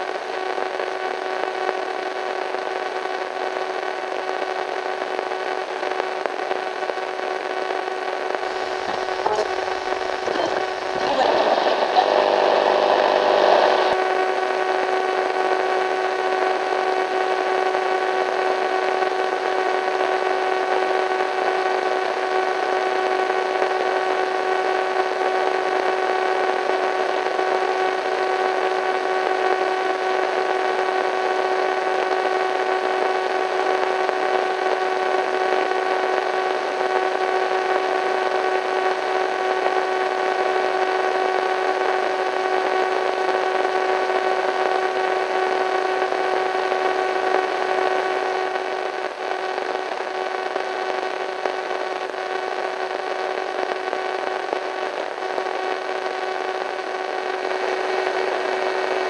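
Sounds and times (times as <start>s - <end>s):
radio static hiss: 0.0s - 59.0s
multi-tone hum: 3.0s - 59.0s.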